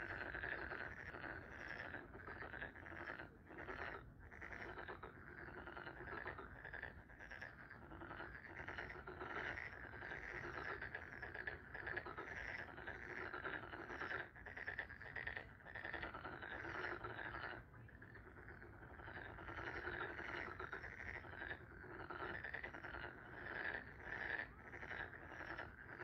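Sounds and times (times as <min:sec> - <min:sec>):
frogs croaking: 0:00.0 - 0:26.0.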